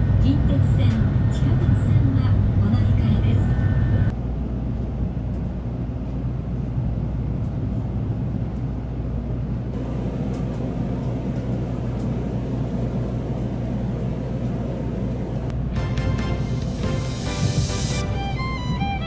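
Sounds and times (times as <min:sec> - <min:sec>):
train rumble inside passenger car: 0:00.0 - 0:19.0.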